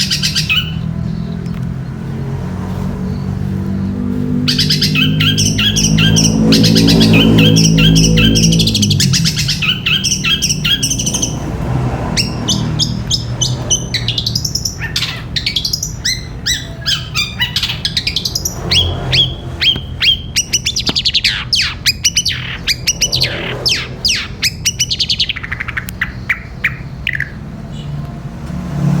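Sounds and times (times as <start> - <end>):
shrike singing rapid chirps: 0.0 - 2.3, 3.1 - 28.0.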